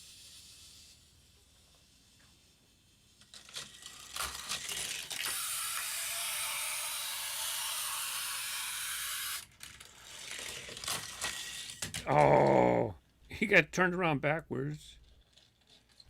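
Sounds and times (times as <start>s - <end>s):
toy car rolling on plastic track: 0.0s - 12.2s, 14.9s - 16.0s.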